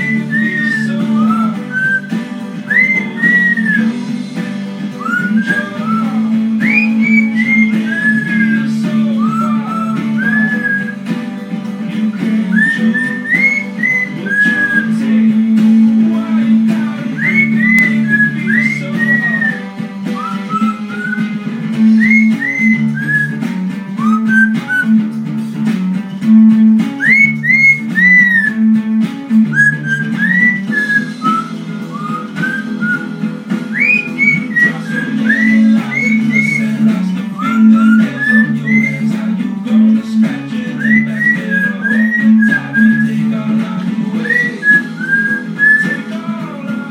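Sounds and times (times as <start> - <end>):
parrot whistling: 0.0 - 3.9, 5.0 - 11.1, 12.1 - 15.1, 17.1 - 25.1, 26.2 - 39.2, 40.7 - 43.2, 44.2 - 46.2
acoustic guitar song: 0.0 - 46.9.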